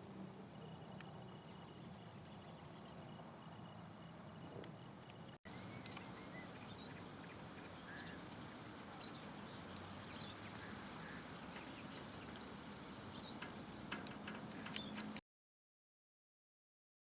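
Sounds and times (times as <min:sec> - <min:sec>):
small birds chirping faintly: 0:00.0 - 0:15.2.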